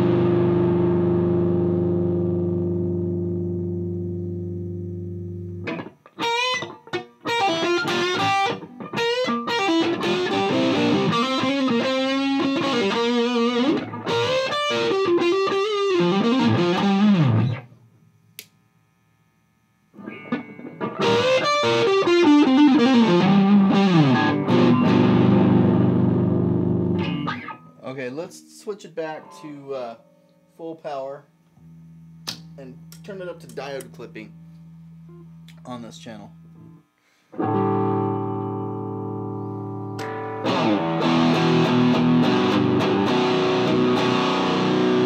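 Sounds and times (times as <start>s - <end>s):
distorted electric guitar riffs: 0.0s - 18.0s, 19.9s - 45.0s.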